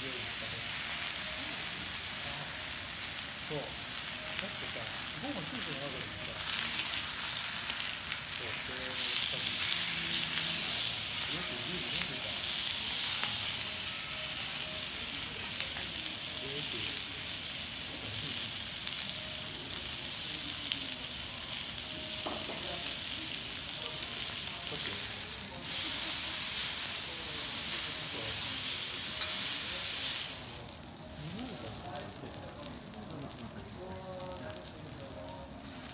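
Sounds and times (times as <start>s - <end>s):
beef sizzling on hot griddle: 0.0s - 35.9s.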